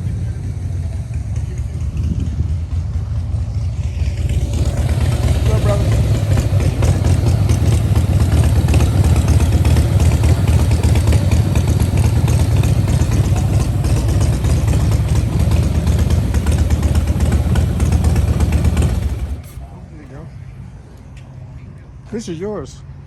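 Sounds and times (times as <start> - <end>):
vehicle engine idling: 0.0 - 22.5.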